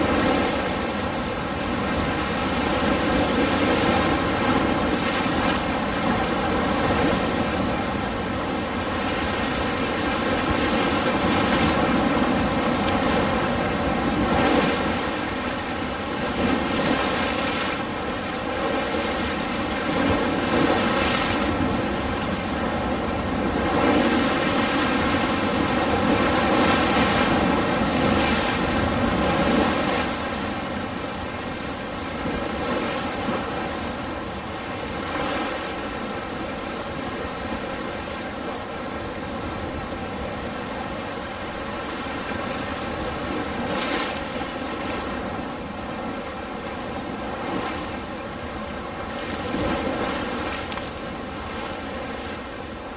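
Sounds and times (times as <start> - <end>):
ocean waves rushing: 0.0 - 52.9.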